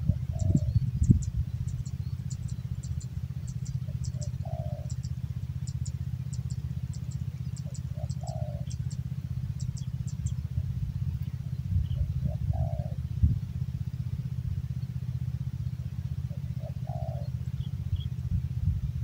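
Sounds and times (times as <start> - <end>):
dove cooing: 0.0 - 14.4, 15.6 - 18.3
steady low rumble: 0.0 - 19.0.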